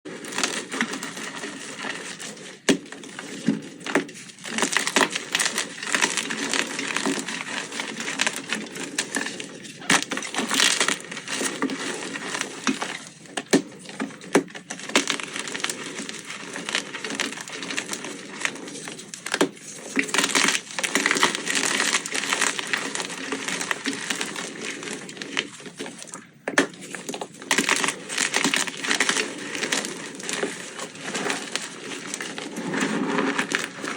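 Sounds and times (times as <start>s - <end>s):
chalk blocks crunching: 0.0s - 33.9s.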